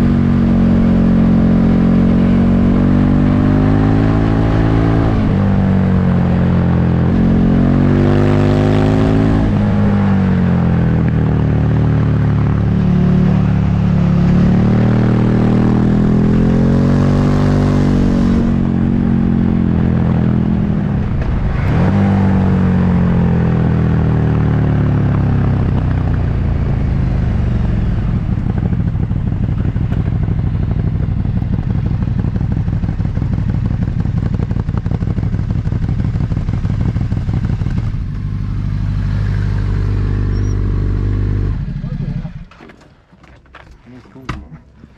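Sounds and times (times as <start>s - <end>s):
motorcycle engine revving: 0.0s - 42.8s.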